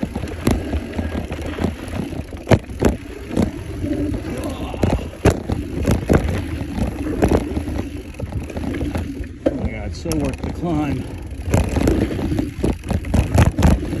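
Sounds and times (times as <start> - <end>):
bike knocking and rattling: 0.0 - 14.0
tyres rumbling on dirt: 0.0 - 14.0.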